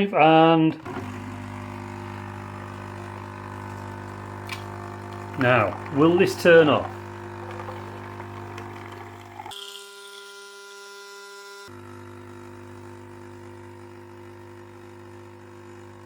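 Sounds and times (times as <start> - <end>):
coffee machine pump buzzing: 0.8 - 16.0.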